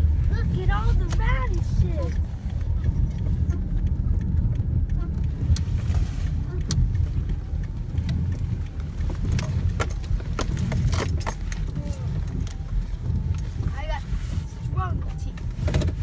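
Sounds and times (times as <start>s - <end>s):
motor vehicle rumble: 0.0s - 16.0s
sharp clicks: 0.4s - 13.7s.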